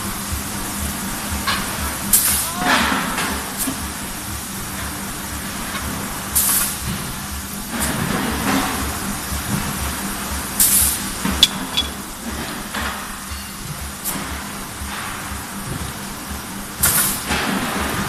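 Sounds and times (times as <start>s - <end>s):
compressed air hiss: 0.0s - 18.0s
machinery hum with low pulsing: 0.0s - 18.0s.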